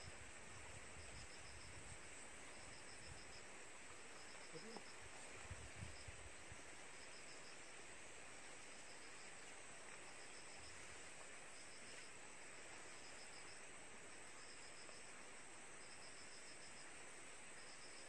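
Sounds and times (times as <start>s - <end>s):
cricket chirping: 0.0s - 18.0s
steady high hiss: 0.0s - 18.0s.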